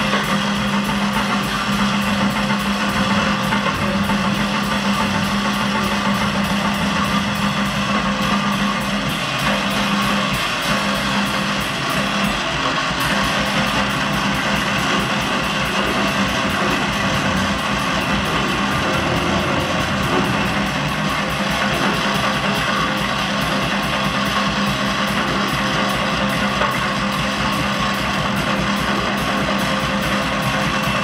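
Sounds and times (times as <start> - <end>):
distorted bass guitar: 0.0 - 31.0
rapid drumming: 0.0 - 31.0.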